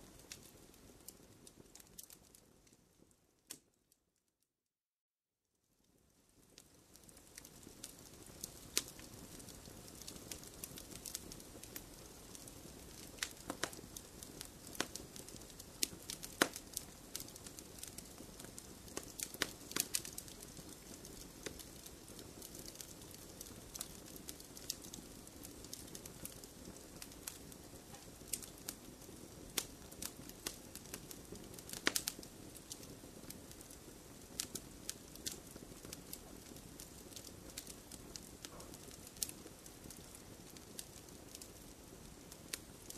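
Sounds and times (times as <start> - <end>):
fire crackling and popping: 0.0 - 3.8, 5.8 - 42.9
hiss of flames: 7.0 - 42.9.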